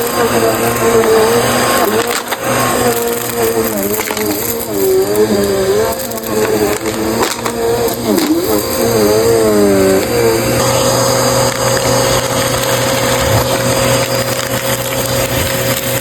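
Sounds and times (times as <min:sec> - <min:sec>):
debris crackling clicks: 0:00.0 - 0:16.0
upright vacuum running: 0:00.0 - 0:16.0.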